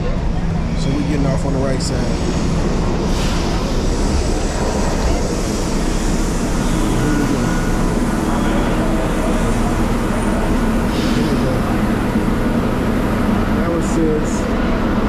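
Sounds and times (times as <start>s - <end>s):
subway train rumble and rattle: 0.0s - 15.0s.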